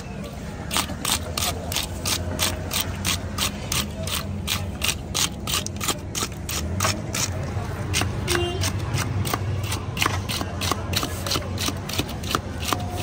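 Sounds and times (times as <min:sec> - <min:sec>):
hand scraper rasping fish scales: 0:00.7 - 0:13.0.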